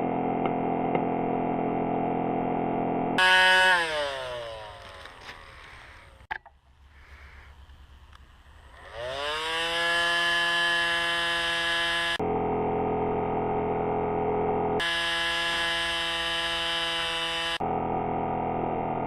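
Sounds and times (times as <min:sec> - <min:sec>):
rotary tool high whine: 0:00.0 - 0:19.0.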